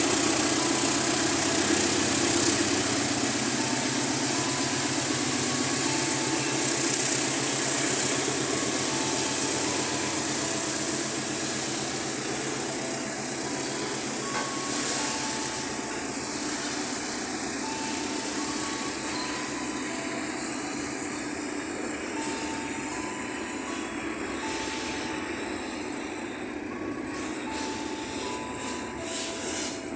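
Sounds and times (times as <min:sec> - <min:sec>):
freight wagons rolling on rails: 0:00.0 - 0:29.9.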